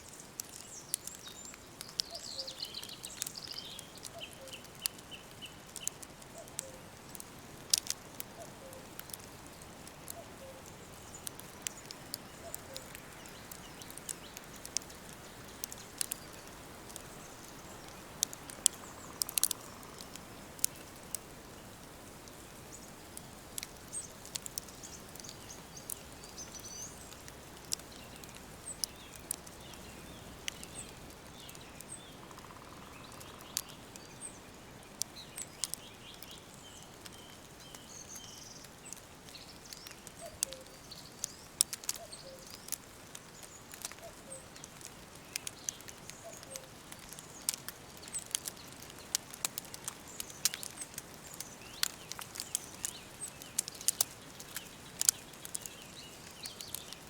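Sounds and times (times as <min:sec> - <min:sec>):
songbirds chirping: 0:00.0 - 0:57.0
wood fire crackling and popping: 0:00.0 - 0:57.0.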